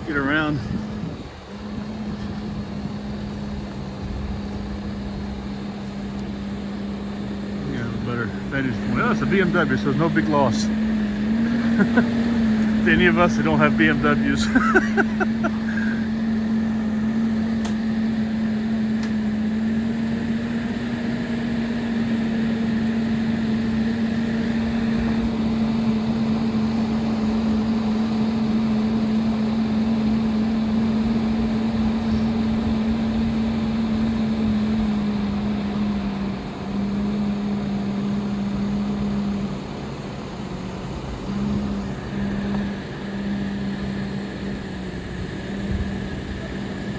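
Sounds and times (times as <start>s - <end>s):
crane engine humming: 0.0s - 46.9s.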